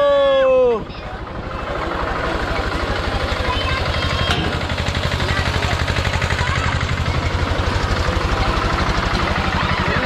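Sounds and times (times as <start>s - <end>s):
ferris wheel engine throbbing: 0.0s - 10.0s.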